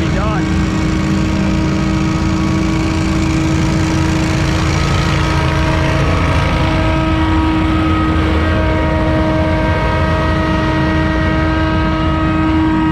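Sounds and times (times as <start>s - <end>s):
lawn-care machine engine running: 0.0s - 12.9s
steady whine: 0.0s - 12.9s.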